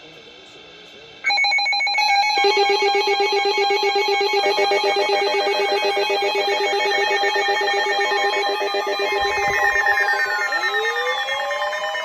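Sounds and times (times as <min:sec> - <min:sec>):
shrill warbling alert tones: 0:01.3 - 0:12.0.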